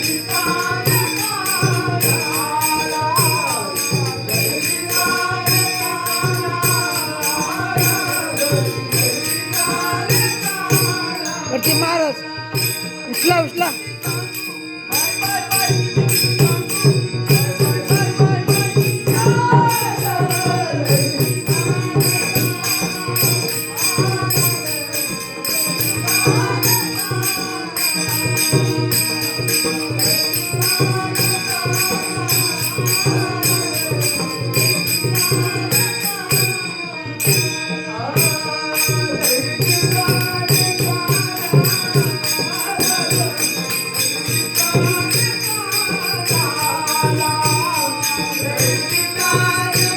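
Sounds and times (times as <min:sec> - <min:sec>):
person singing devotional melody: 0:00.0 - 0:49.9
small hand cymbals: 0:00.0 - 0:49.9.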